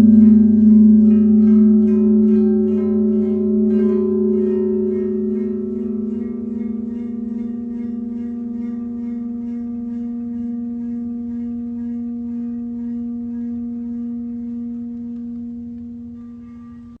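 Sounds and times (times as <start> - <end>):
steady ringing tone: 0.0 - 17.0.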